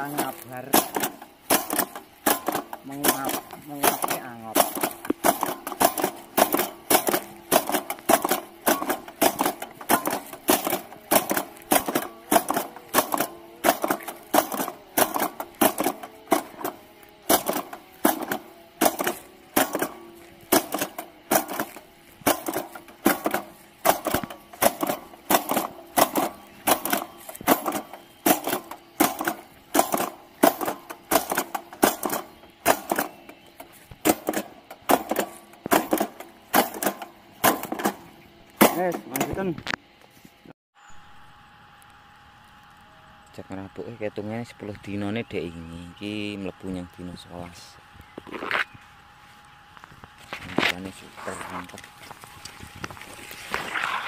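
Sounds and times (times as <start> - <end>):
fertiliser applicator clacking: 0.0 - 39.8, 49.7 - 54.0.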